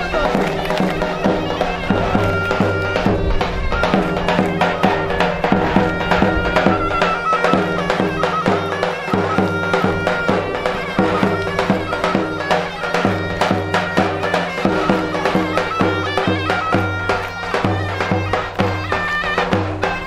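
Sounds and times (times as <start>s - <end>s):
drum beating fast rhythm: 0.0s - 20.0s
shrill reed wind instrument melody: 0.0s - 20.0s.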